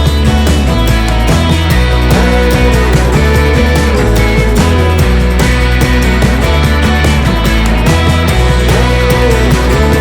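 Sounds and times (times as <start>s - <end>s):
loud rock music: 0.0s - 10.0s.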